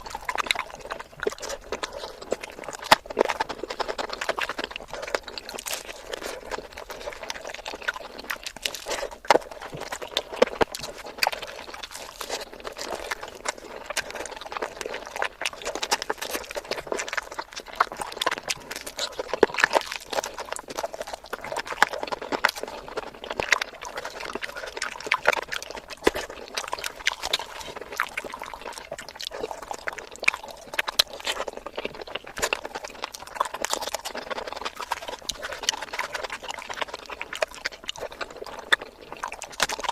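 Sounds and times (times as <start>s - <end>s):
person chewing and lip smacking: 0.0s - 39.9s.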